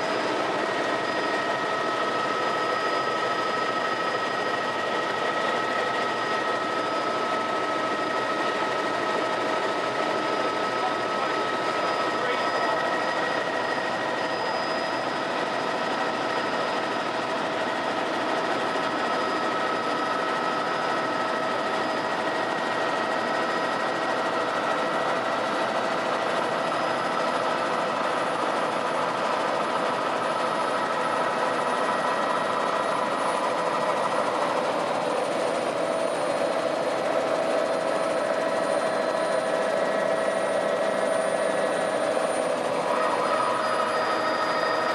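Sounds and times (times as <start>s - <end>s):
helicopter engine and rotor: 0.0s - 44.9s
turbine whine: 0.0s - 44.9s.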